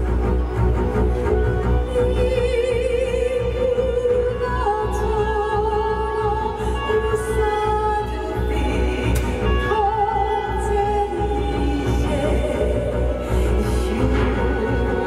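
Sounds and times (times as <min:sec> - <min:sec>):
orchestral music: 0:00.0 - 0:15.0
operatic voice singing: 0:01.1 - 0:15.0.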